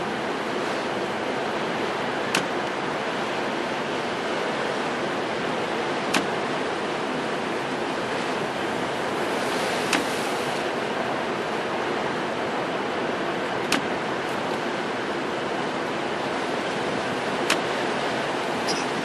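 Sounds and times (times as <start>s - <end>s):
waves crashing against seawall: 0.0s - 19.0s
wind: 0.0s - 19.0s.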